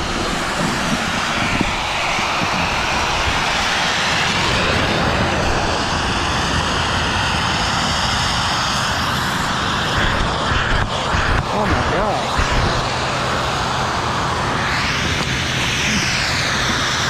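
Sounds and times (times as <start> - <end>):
snowmaking guns: 0.0 - 17.0
wind roar: 0.0 - 17.0.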